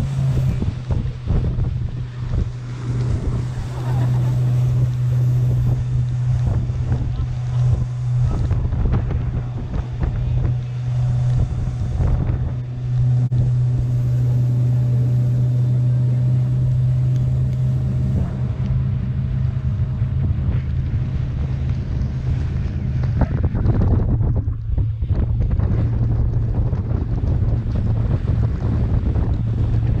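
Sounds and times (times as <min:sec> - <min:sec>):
outboard motor droning: 0:00.0 - 0:30.0
water rushing: 0:00.0 - 0:30.0
wind buffeting microphone: 0:00.0 - 0:30.0.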